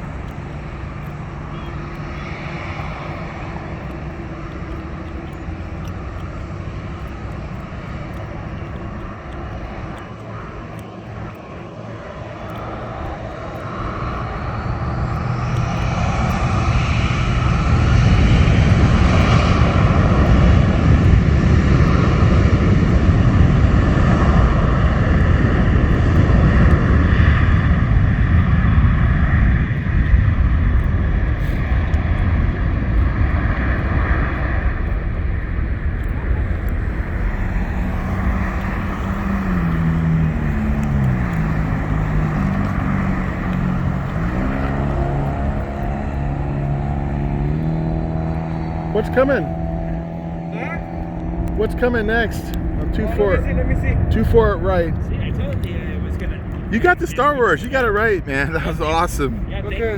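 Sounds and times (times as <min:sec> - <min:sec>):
jet airliner engines passing: 0:00.0 - 0:59.9.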